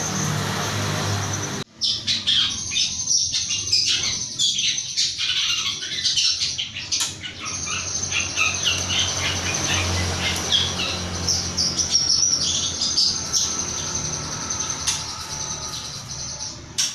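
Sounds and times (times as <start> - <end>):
shrike chirping: 1.0 - 16.9.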